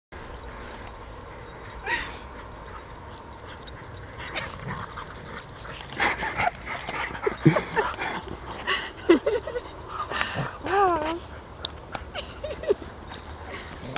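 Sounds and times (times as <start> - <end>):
dogs yipping and whining: 1.2 - 13.8.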